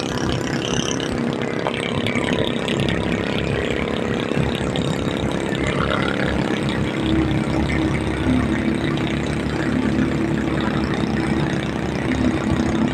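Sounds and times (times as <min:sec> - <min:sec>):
road noise rumble: 0:00.0 - 0:12.9
vehicle engine running: 0:00.0 - 0:12.9.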